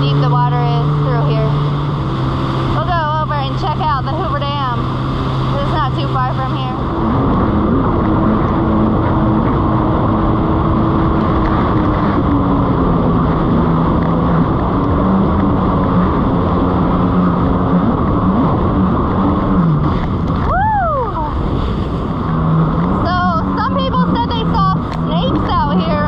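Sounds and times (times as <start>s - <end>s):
jet ski engine running: 0.0s - 26.0s
steady rushing noise: 0.0s - 26.0s.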